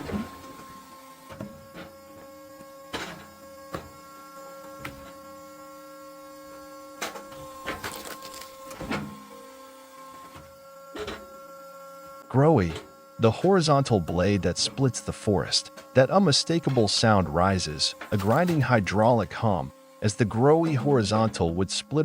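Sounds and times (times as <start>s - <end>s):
log splitter motor humming: 0.0s - 22.0s.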